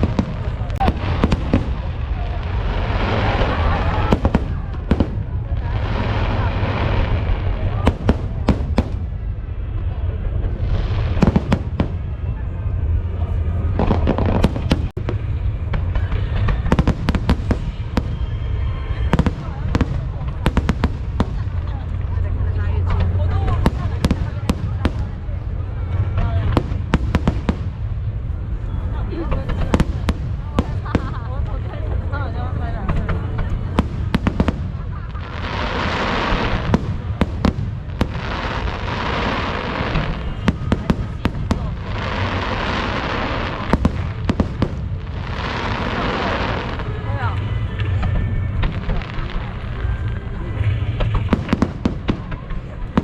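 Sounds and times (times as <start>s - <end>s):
fireworks bangs and crackles: 0.0s - 53.0s
low rumble: 0.0s - 53.0s.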